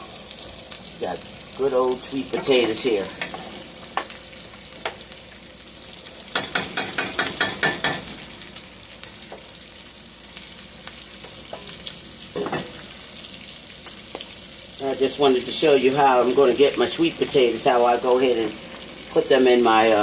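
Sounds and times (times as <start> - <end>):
steak sizzling in a pan: 0.0 - 20.0.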